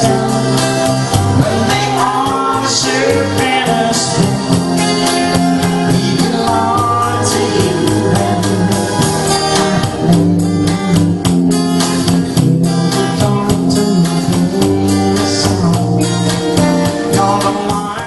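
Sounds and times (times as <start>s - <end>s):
acoustic guitar strummed: 0.0s - 18.0s
electric guitar strummed: 0.0s - 18.0s
person singing: 0.0s - 18.0s.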